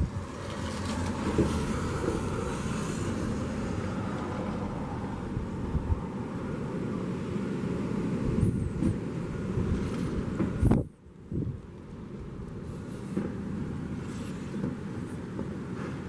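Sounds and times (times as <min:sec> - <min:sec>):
vehicle rumbling: 0:00.0 - 0:16.0.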